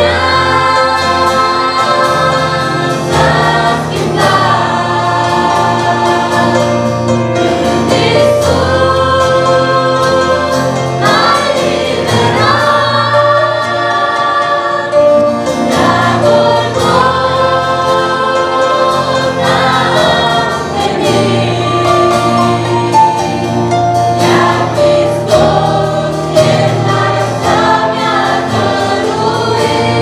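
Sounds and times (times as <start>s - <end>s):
acoustic guitar: 0.0s - 30.0s
women singing a hymn: 0.0s - 30.0s.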